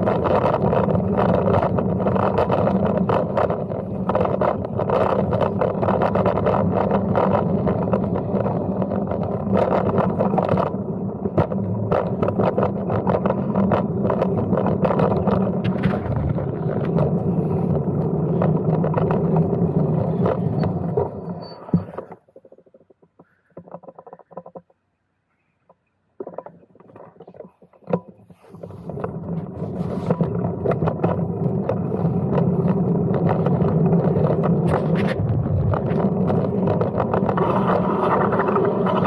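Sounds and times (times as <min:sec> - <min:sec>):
bicycle rattles and clicks: 0:00.0 - 0:24.9, 0:25.7 - 0:39.0
bicycle tyre and road noise: 0:00.0 - 0:25.0, 0:26.2 - 0:39.0.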